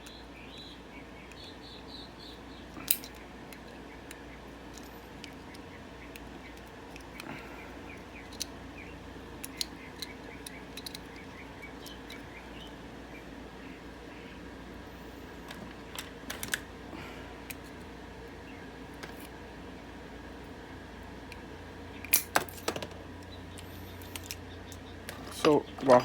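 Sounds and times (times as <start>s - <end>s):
birds chirping: 0.0s - 22.2s, 23.0s - 26.0s
steady low hum: 0.0s - 26.0s.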